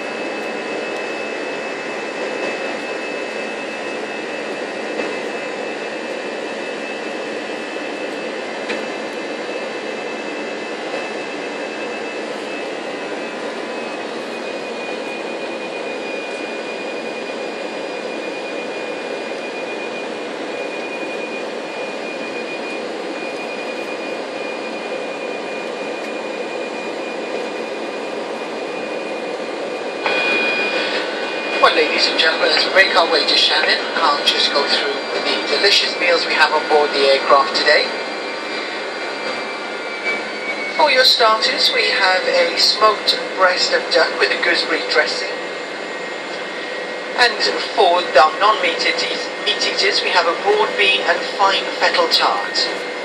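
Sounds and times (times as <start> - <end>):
jet cabin engine and airflow rush: 0.0 - 53.0
thin high whine: 0.0 - 53.0.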